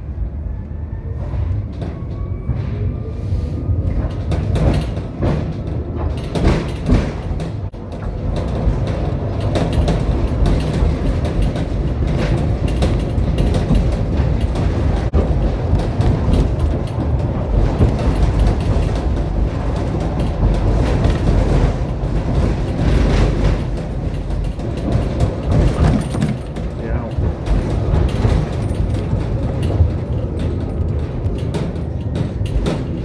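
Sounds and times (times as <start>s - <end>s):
tram wheels rumbling on rails: 0.0s - 33.0s
track clicks and knocks: 3.9s - 33.0s.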